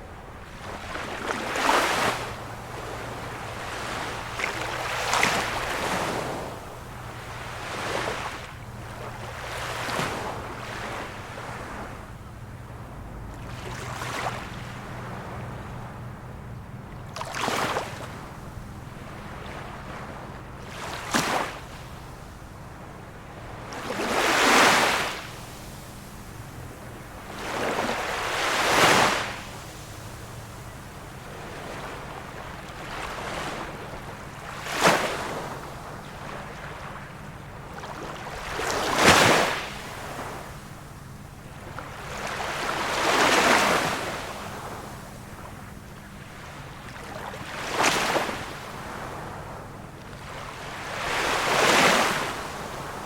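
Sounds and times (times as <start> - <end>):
small waves washing in: 0.0 - 53.0.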